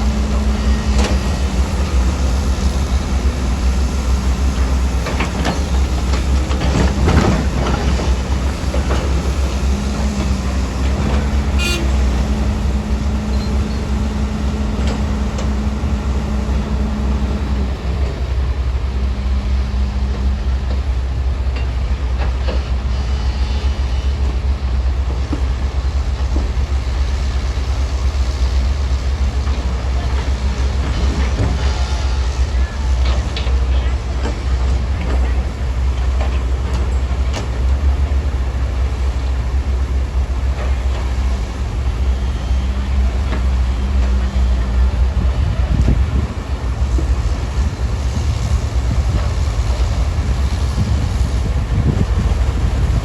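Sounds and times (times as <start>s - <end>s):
diesel machinery rumbling: 0.0s - 53.0s.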